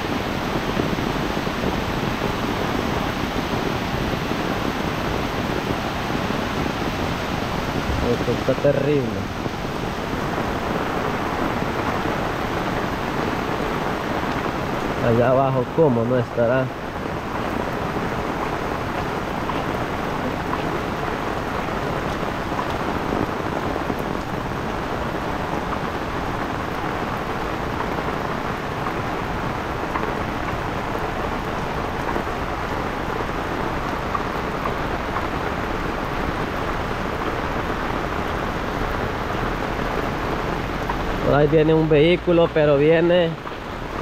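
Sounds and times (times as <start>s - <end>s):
heavy rain on pavement: 0.0s - 44.0s.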